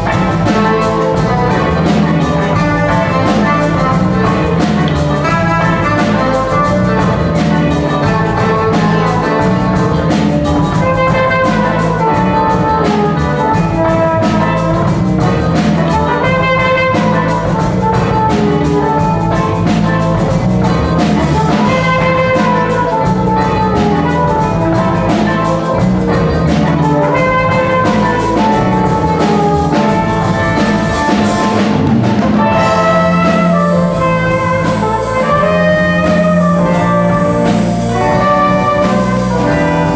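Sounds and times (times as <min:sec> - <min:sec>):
horns playing melody: 0:00.0 - 0:39.9
jazz band playing: 0:00.0 - 0:39.9.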